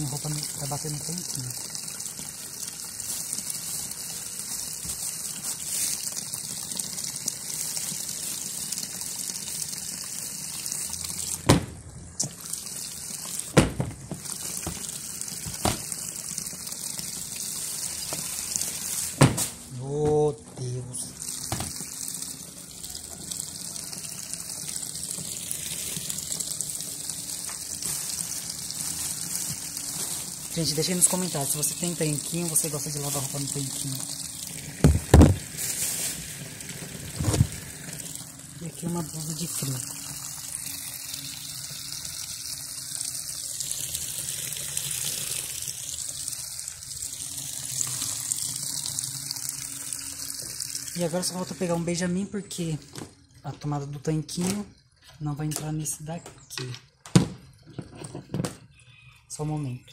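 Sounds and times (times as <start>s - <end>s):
tap water filling a tub: 0.0s - 52.0s.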